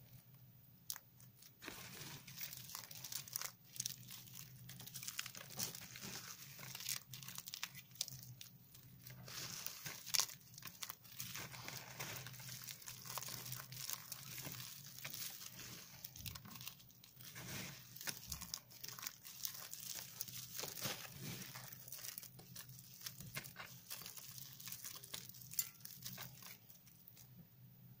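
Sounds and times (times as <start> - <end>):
faint low hum: 0.0 - 28.0
soap shavings crunching: 0.9 - 27.3.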